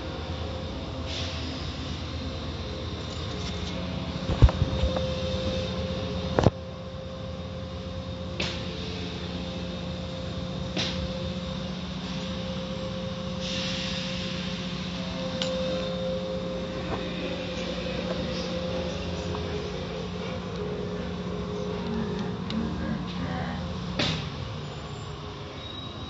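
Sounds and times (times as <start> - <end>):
car wash machinery hum: 0.0 - 26.0.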